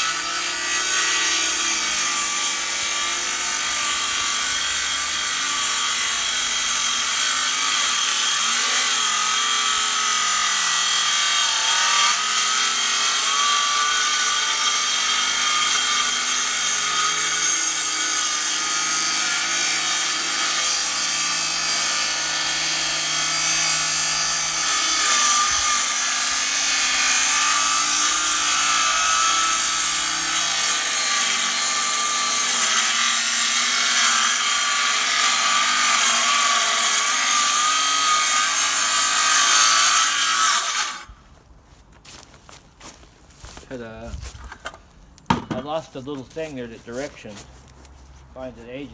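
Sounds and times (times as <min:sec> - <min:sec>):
power tool cutting wood: 0:00.0 - 0:41.1.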